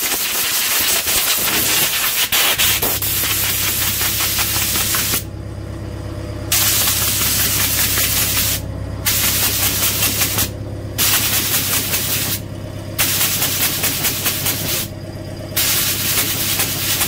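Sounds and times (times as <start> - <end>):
compressed air blow gun hissing: 0.0 - 5.3, 6.5 - 12.4, 13.0 - 14.9, 15.6 - 17.0
steady low hum: 0.5 - 17.0.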